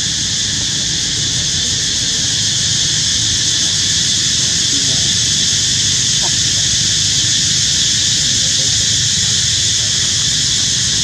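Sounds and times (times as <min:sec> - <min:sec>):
insect chorus hissing: 0:00.0 - 0:11.0.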